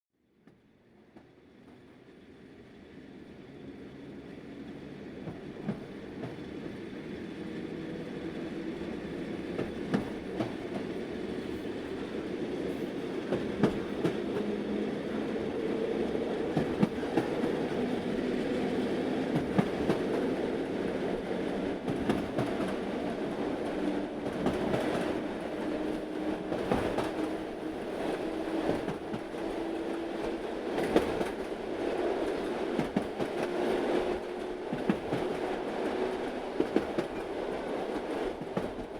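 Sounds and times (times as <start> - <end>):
small train engine: 0.4 - 38.9.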